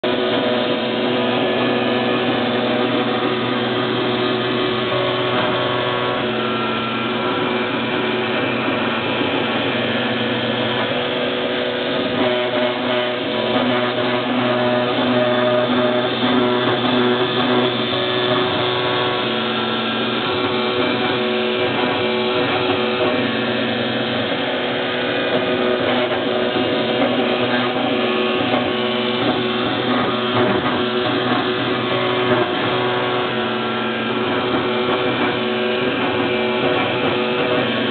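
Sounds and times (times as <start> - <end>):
motors whining: 0.0 - 37.9
wood router milling wood: 0.0 - 37.9.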